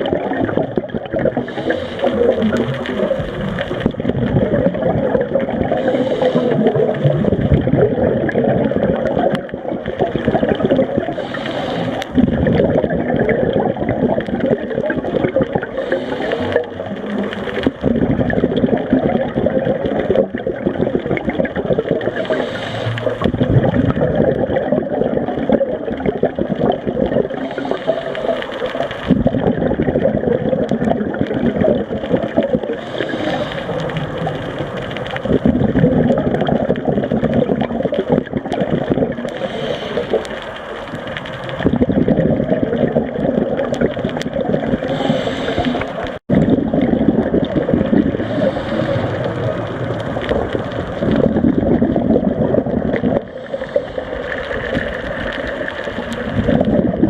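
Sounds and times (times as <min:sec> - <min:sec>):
exhaled bubbles hissing: 0:00.0 - 0:57.0
underwater churning water noise: 0:00.0 - 0:57.0.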